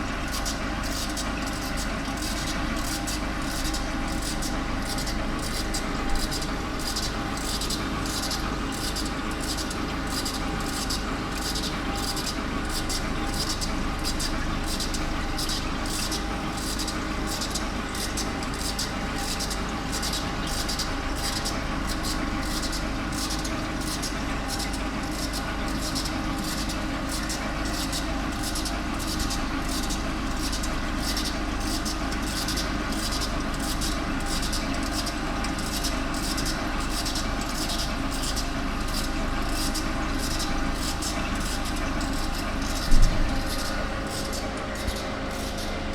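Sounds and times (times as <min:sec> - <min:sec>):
machine hum with steady tones: 0:00.0 - 0:45.9.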